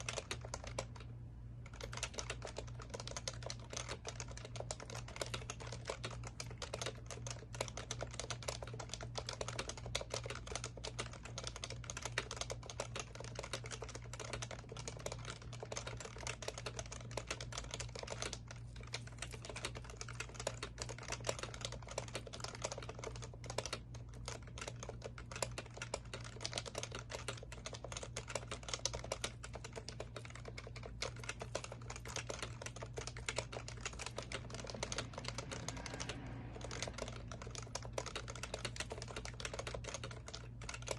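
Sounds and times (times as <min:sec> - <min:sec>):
fast keyboard typing: 0:00.0 - 0:40.9
steady low hum: 0:00.0 - 0:40.9.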